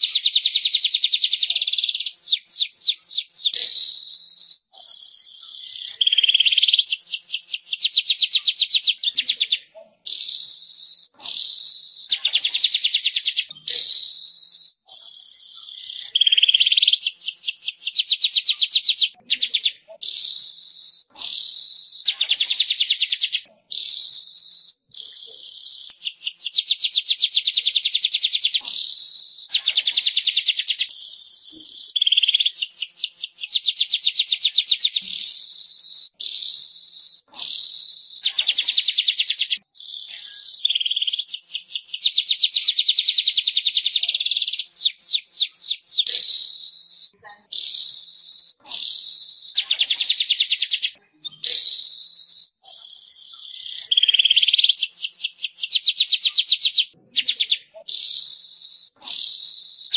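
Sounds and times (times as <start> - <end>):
bird singing buzzy chattering trills: 0.0 - 59.9.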